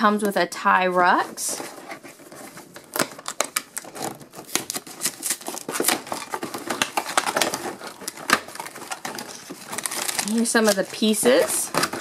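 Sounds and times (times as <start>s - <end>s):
packaging rustling: 1.0s - 12.0s
cardboard flaps clicking and scraping: 1.1s - 12.0s.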